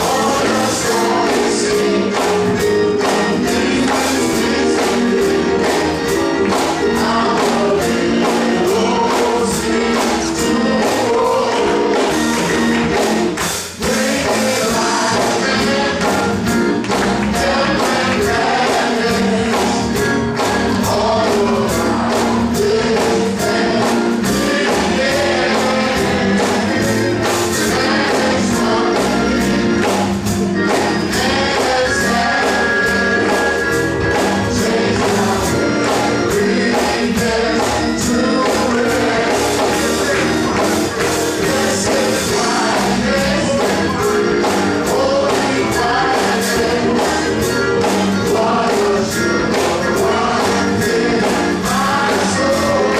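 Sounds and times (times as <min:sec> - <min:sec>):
band playing: 0:00.0 - 0:52.9
gospel choir singing: 0:00.0 - 0:52.9
percussion beat: 0:00.0 - 0:52.9.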